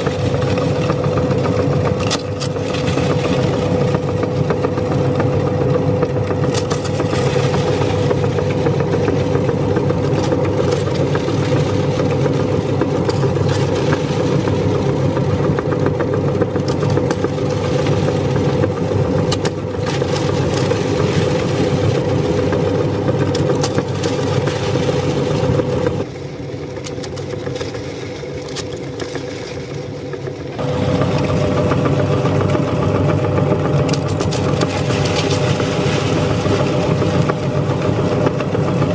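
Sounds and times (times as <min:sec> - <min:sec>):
cookies cracking in grinder: 0:00.0 - 0:38.9
meat grinder motor hum: 0:00.0 - 0:38.9.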